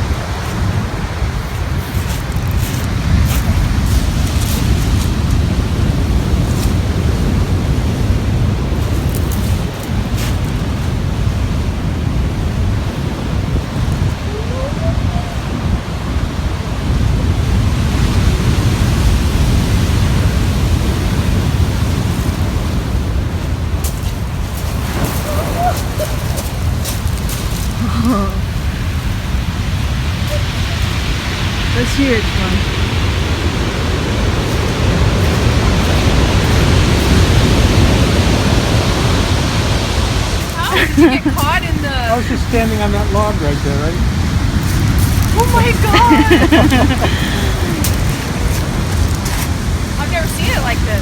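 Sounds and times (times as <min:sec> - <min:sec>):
ocean surf breaking: 0:00.0 - 0:51.0
wind on microphone: 0:00.0 - 0:51.0.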